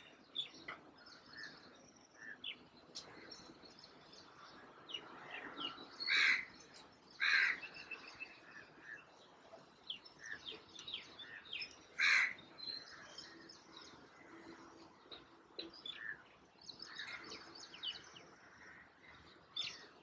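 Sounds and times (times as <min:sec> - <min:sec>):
loud bird calls: 0:00.0 - 0:09.1, 0:10.0 - 0:14.8, 0:15.6 - 0:20.0
birds chirping: 0:00.0 - 0:20.0.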